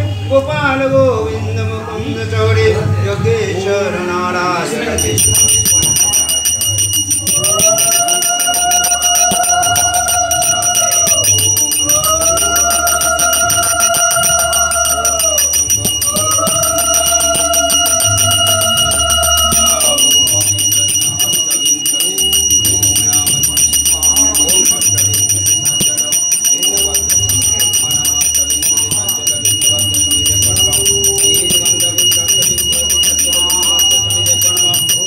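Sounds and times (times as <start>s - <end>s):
hand bell ringing rapidly: 5.0s - 35.0s.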